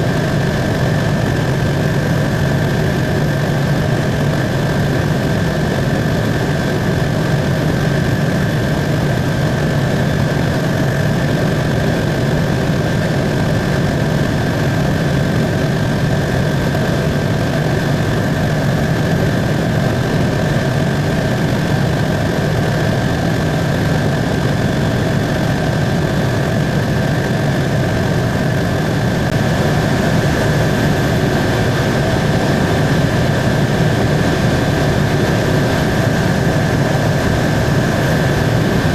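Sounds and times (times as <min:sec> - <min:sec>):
helicopter engine and rotor drone: 0:00.0 - 0:38.9
high whine: 0:00.0 - 0:38.9.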